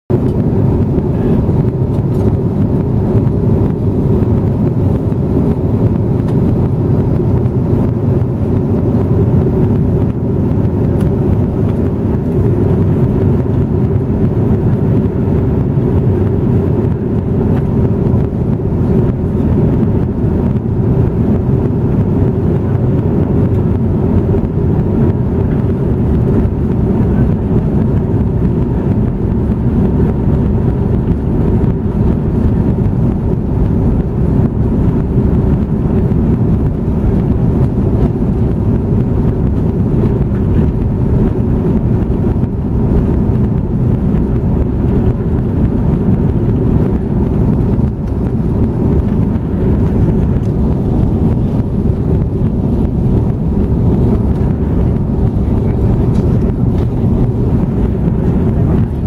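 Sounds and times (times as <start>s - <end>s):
jet airliner cabin noise: 0.1s - 59.0s.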